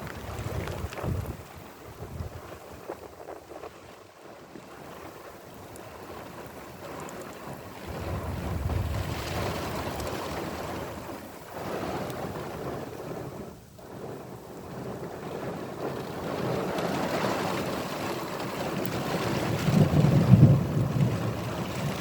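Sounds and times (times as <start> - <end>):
storm wind gusting: 0.0 - 3.7, 4.9 - 22.0
heavy rain: 0.0 - 22.0
wind buffeting the microphone: 0.0 - 22.0.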